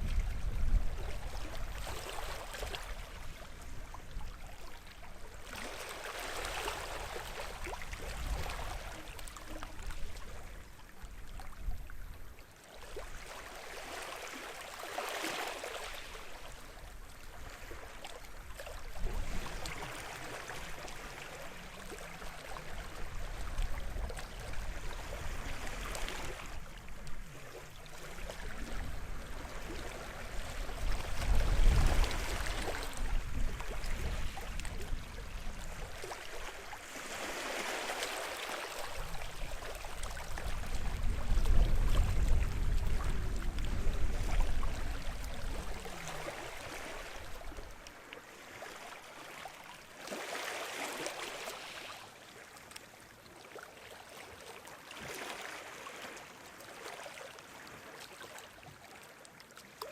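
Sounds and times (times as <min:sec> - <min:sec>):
small waves washing on shore: 0:00.0 - 0:59.9.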